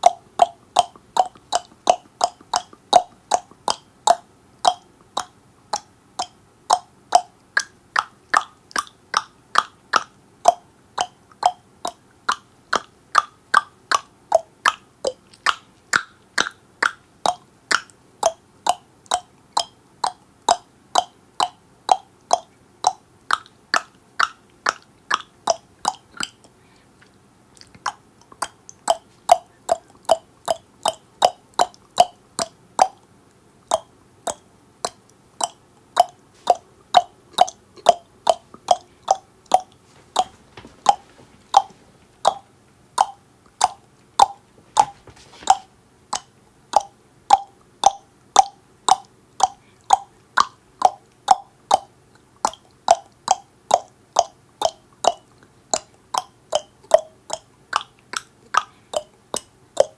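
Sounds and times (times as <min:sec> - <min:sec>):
tongue clicks: 0:00.0 - 0:59.9.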